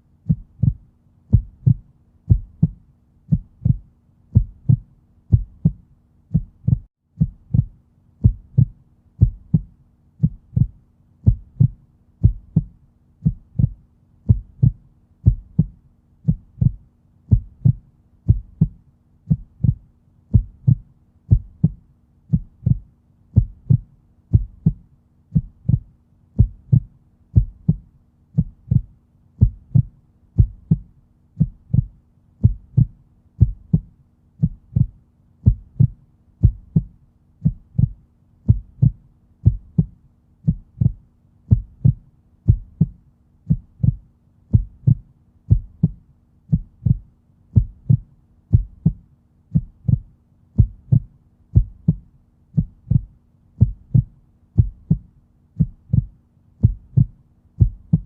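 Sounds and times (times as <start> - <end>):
faint low hum: 0.0 - 58.0
heartbeat: 0.2 - 58.0.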